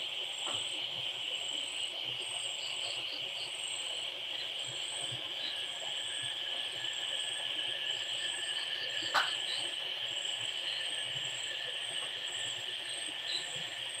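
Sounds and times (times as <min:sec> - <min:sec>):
night insect chorus chirring: 0:00.0 - 0:14.0.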